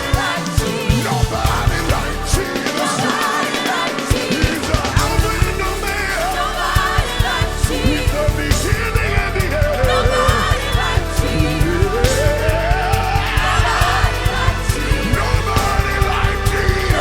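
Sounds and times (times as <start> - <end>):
heavy bass: 0.0 - 3.2, 4.0 - 17.0
drums hitting: 0.0 - 17.0
gospel band playing: 0.0 - 17.0.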